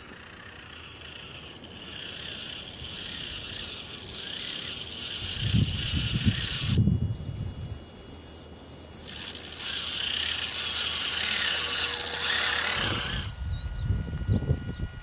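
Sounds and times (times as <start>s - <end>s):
toy truck motor whining: 0.0s - 14.8s.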